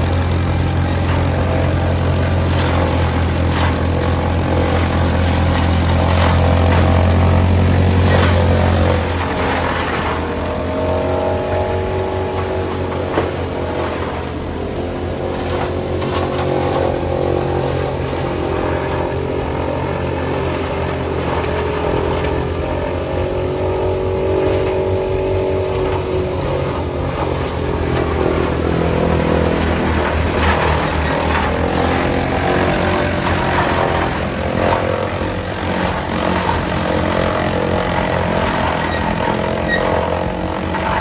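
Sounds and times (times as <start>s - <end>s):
low engine hum: 0.0s - 41.0s
silo filler machine drone: 0.0s - 41.0s.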